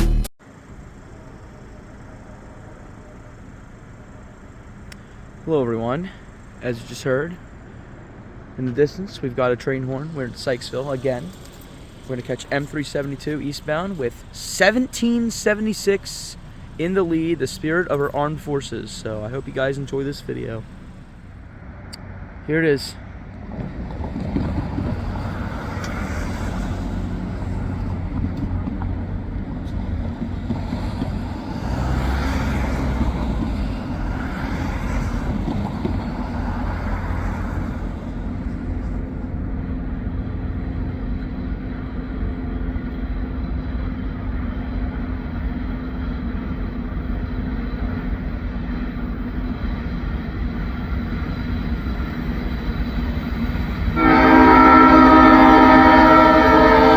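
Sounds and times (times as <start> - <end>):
freight train locomotive rumble: 0.0 - 56.9.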